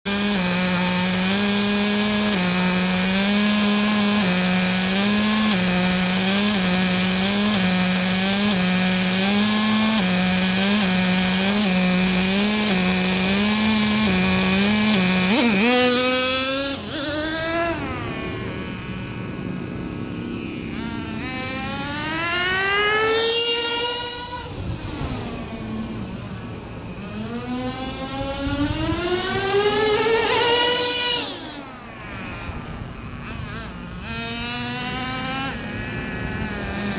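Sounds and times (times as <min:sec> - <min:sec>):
nitro engine idling and revving: 0:00.0 - 0:36.9.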